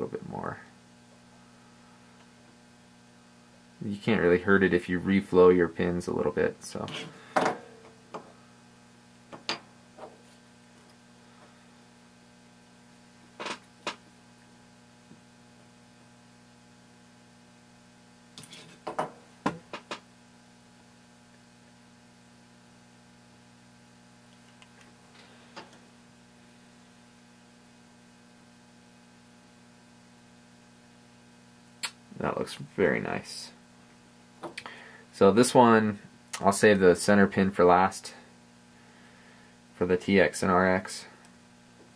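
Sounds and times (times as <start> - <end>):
low electrical hum: 0.0 - 41.9.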